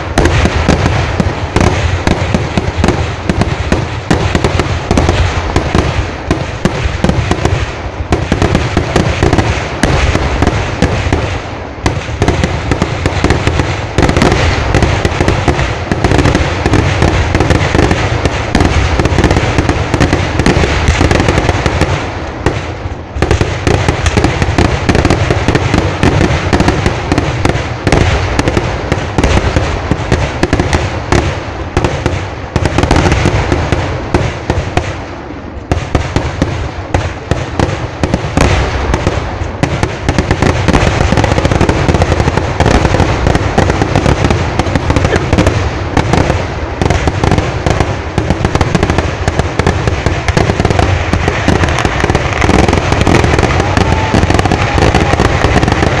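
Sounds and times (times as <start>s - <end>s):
fireworks explosions and bangs: 0.0s - 56.0s.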